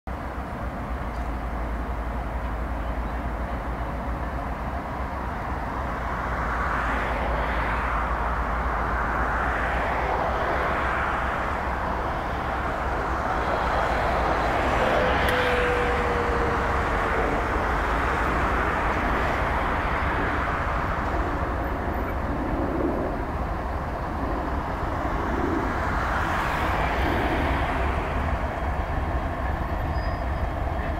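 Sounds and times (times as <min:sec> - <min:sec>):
diesel locomotives engine drone: 0:00.1 - 0:30.9.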